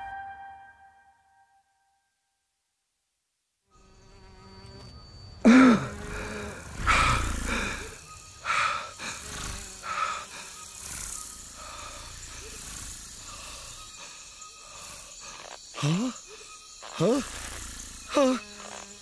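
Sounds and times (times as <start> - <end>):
insect-like buzzing and chittering: 3.7 - 19.0.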